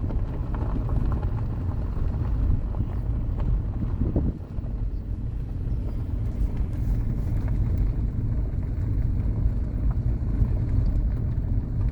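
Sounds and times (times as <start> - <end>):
fluttering low rumble: 0.0 - 11.9.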